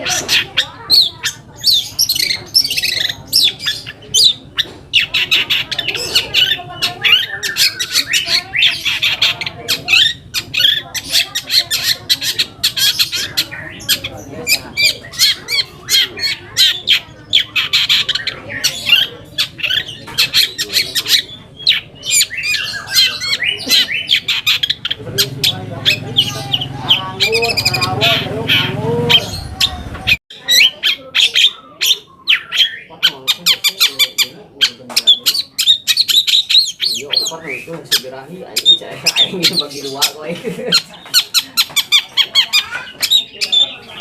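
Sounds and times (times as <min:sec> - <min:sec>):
bird singing harsh chattering song: 0:00.0 - 0:44.0.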